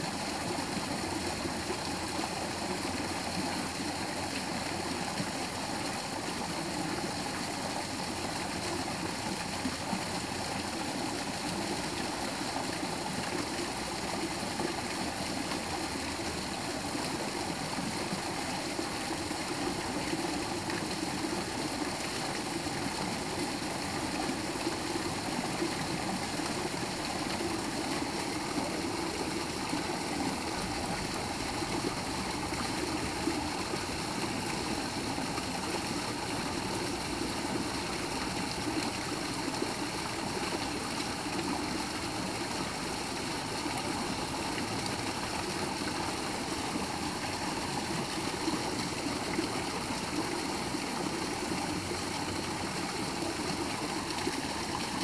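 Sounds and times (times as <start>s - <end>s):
waterfall splashing into pond: 0.0s - 55.0s.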